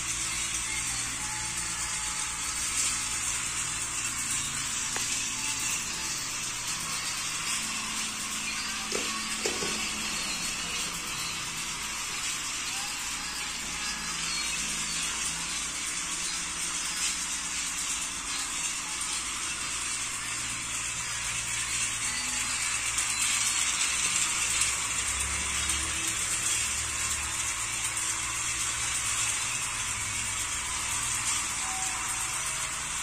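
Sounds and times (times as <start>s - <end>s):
toy trains whirring and clattering: 0.0s - 33.0s.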